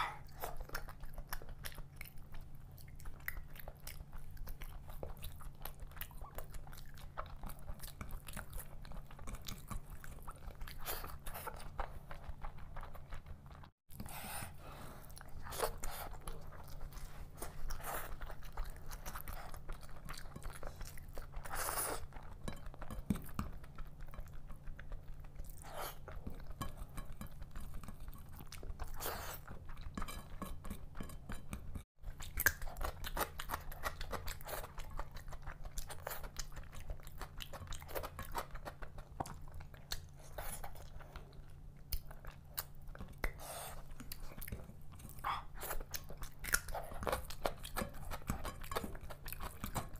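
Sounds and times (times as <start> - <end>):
close chewing and wet mouth sounds: 0.0 - 49.9.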